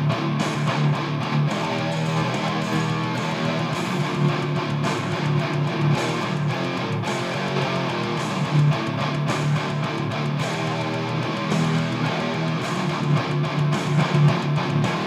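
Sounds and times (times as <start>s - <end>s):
electric guitar playing: 0.0s - 15.0s.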